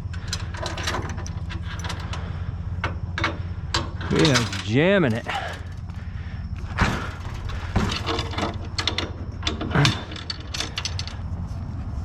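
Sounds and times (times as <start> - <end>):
metal clanks: 0.0 - 6.0, 6.6 - 11.3.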